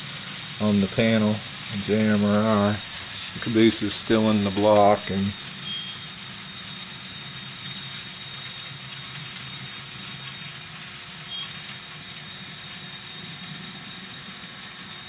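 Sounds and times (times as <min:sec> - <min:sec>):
model train rumbling: 0:00.0 - 0:15.0
faint high squeals: 0:01.0 - 0:15.0.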